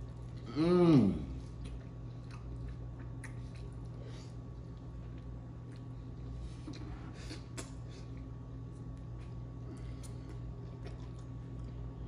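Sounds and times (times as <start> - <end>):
voiced hum: 0.0 - 12.0
close-up chewing: 1.4 - 12.0.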